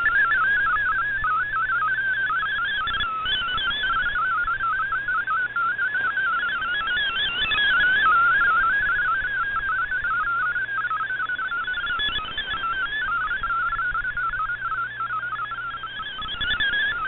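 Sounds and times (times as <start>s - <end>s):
warbling digital data tones: 0.0s - 17.0s.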